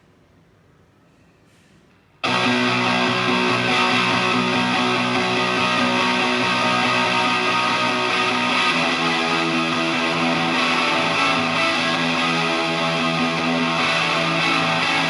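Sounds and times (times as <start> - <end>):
fuzzed electric guitar chord: 2.2 - 15.0.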